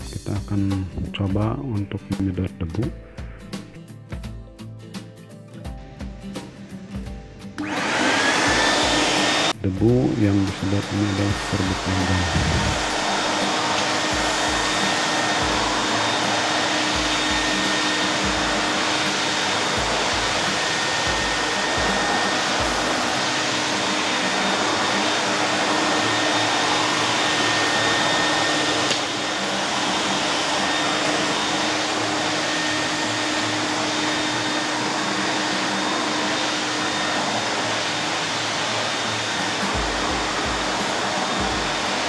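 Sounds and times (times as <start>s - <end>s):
vacuum cleaner running: 6.0s - 42.0s.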